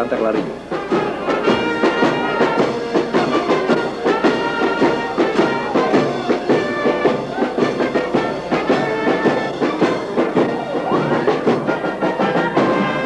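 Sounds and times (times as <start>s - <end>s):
concert band playing: 0.0s - 13.0s.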